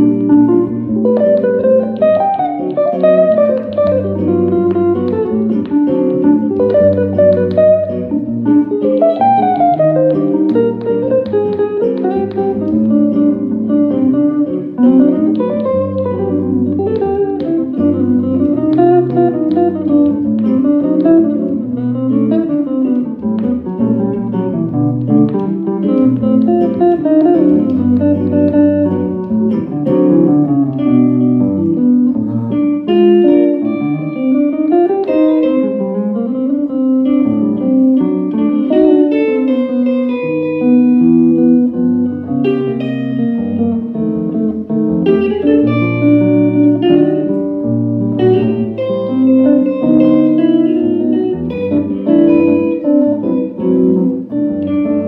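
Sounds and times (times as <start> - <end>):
electric jazz guitar duo: 0.0 - 55.0.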